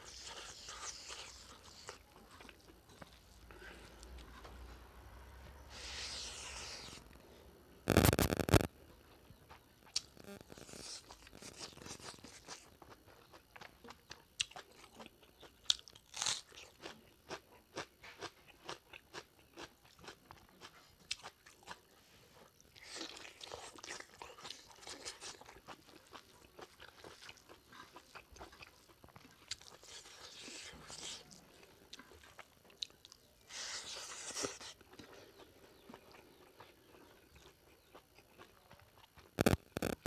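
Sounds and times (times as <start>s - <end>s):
person chewing and crunching: 0.0s - 4.5s, 7.9s - 40.0s.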